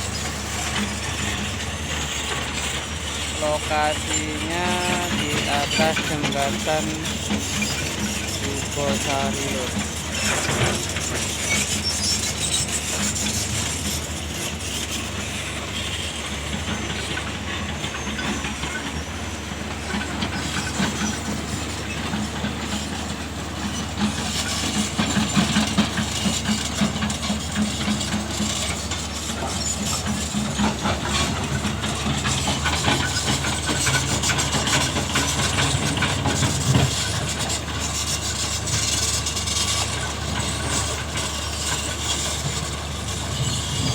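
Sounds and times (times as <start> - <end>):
excavator diesel engines: 0.0 - 43.9.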